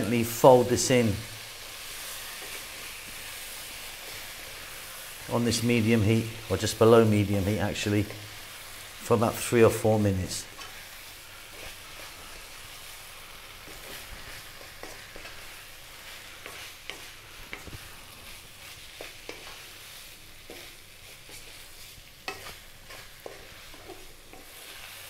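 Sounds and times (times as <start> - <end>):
rice sizzling in a wok: 0.0 - 25.0
wooden spoon scraping a pan: 0.9 - 8.9, 10.4 - 25.0.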